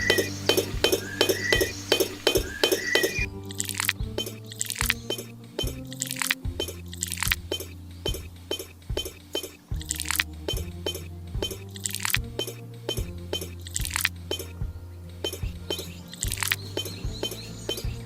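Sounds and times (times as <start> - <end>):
electronic music with deep bass: 0.0 - 18.0.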